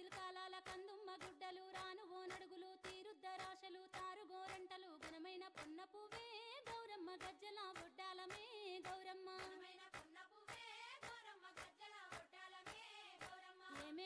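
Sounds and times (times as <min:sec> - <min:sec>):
hand claps: 0:00.0 - 0:14.0.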